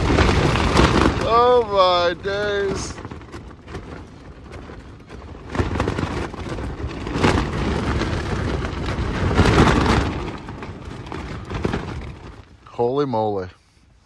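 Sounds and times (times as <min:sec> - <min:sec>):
wind buffeting microphone: 0:00.0 - 0:12.6
wind flapping tent fabric: 0:00.0 - 0:14.0.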